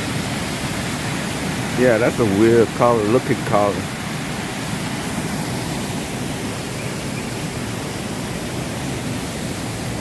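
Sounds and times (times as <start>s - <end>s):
small waterfall rushing: 0.0s - 10.0s.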